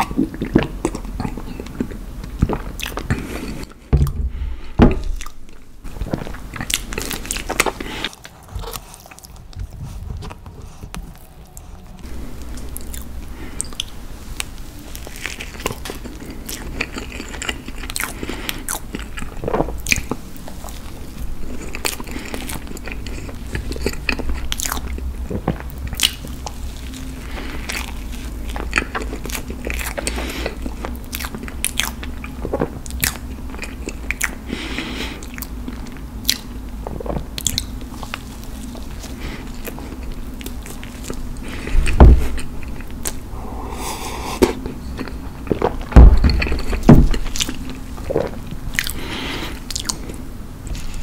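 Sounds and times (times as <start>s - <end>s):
chewing and mouth clicks: 0.0s - 3.8s, 5.1s - 43.3s, 44.2s - 51.0s
steady low hum: 0.0s - 51.0s.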